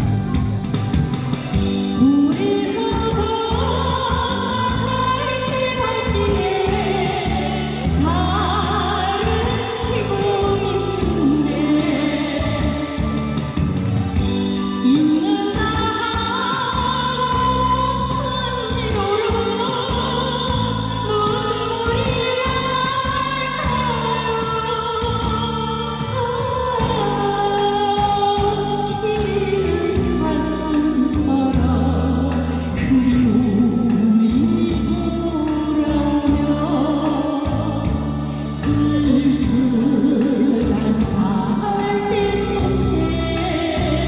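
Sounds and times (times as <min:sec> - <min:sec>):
instrumental accompaniment with bass: 0:00.0 - 0:44.0
woman singing a slow ballad: 0:01.5 - 0:44.0.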